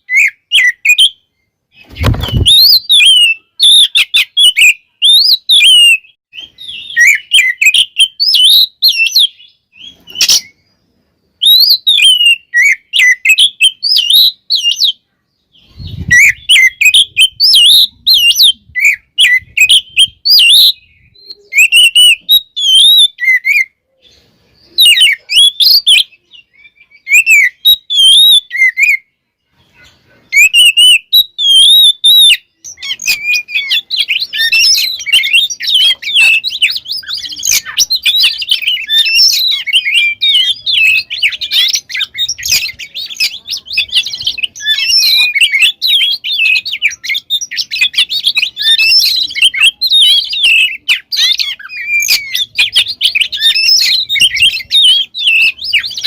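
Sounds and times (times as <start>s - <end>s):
bird singing whistled phrases: 0.0s - 10.8s, 11.4s - 56.0s.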